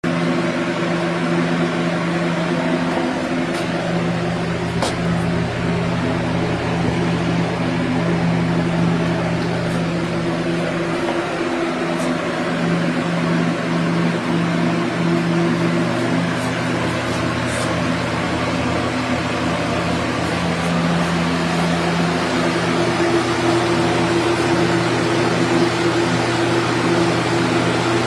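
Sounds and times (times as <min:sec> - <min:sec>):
humidifier motor hum: 0:00.0 - 0:28.0.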